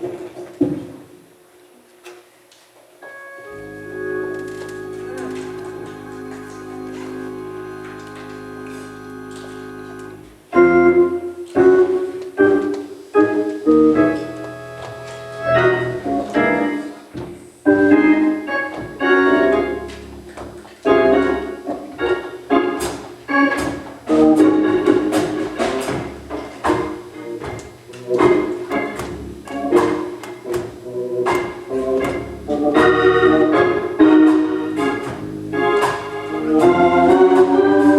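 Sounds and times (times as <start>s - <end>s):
held organ chord: 3.0s - 30.2s, 30.8s - 37.9s.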